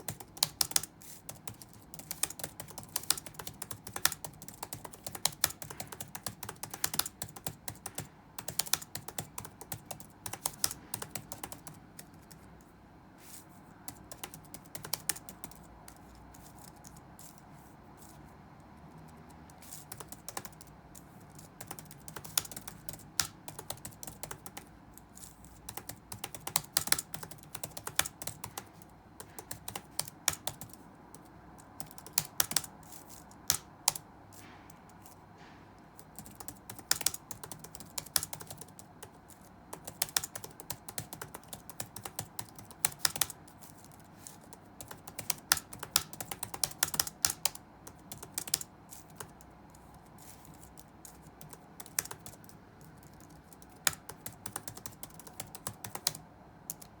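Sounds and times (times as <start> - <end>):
computer keyboard typing: 0.0 - 12.7, 13.8 - 17.4, 18.0 - 35.2, 35.9 - 57.0
faint background hum: 0.0 - 57.0.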